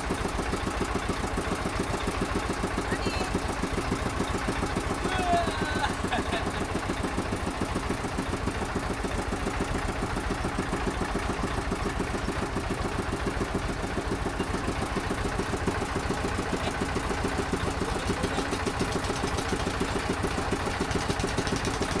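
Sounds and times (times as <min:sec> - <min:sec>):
motorboat engine throbbing: 0:00.0 - 0:22.0.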